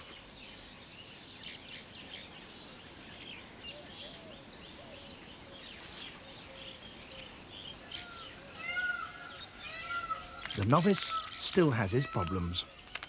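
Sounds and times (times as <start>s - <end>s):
loud arched bird calls: 0.0s - 13.0s
weaver birds chattering: 0.0s - 13.0s.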